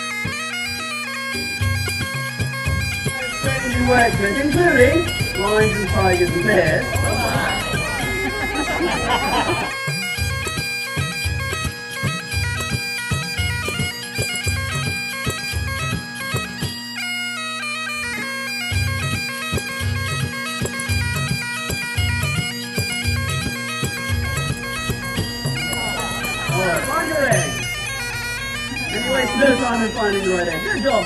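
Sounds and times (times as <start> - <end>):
bagpipe music: 0.0 - 31.0.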